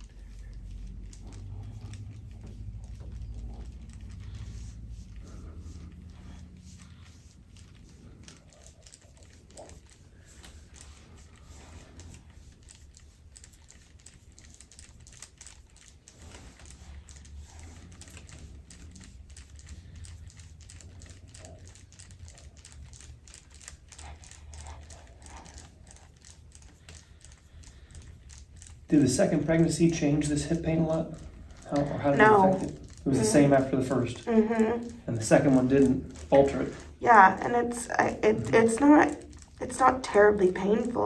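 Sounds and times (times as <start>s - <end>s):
skin clicks and crackles: 0.0s - 41.0s
steady low hum: 0.0s - 41.0s.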